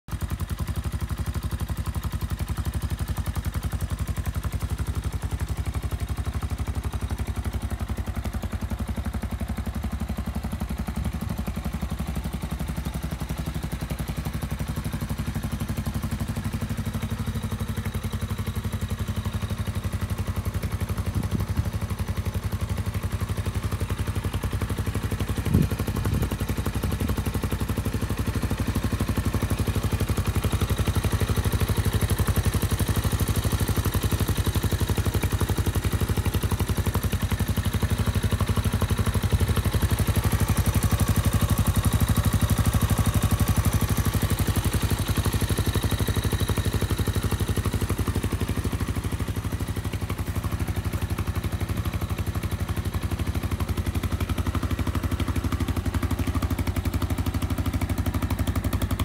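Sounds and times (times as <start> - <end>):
dirt bike engine idling: 0.0 - 59.0.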